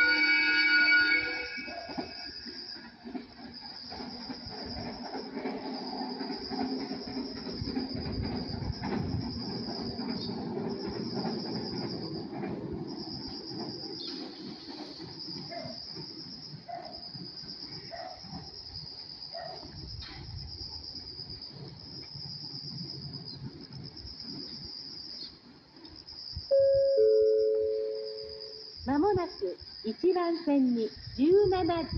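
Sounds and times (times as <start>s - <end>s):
insects trilling: 0.0s - 31.9s
train rumbling: 0.0s - 31.9s.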